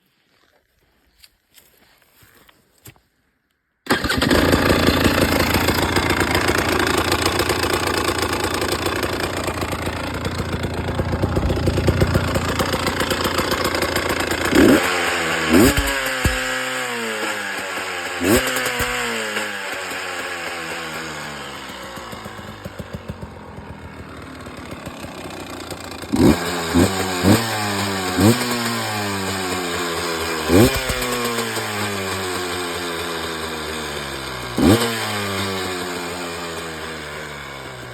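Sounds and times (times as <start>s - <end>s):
motorcycle engine revving: 3.9s - 37.9s.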